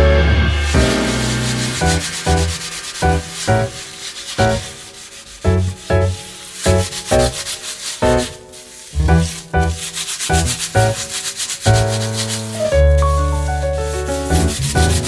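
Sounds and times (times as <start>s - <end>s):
background music: 0.0s - 11.0s, 11.7s - 15.0s
scrubbing kitchen surface: 0.8s - 15.0s.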